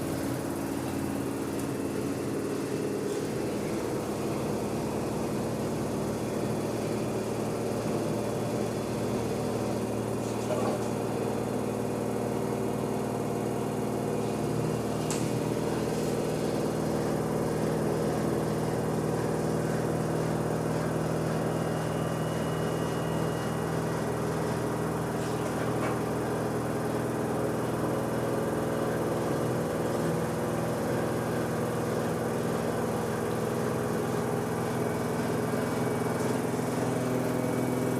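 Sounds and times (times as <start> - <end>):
washer-dryer spinning: 0.0 - 37.9.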